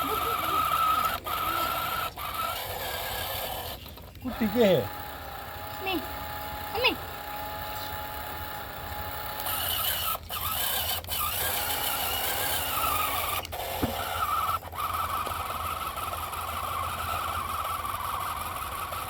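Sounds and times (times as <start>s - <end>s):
mini tractor motor whining: 0.0s - 19.0s.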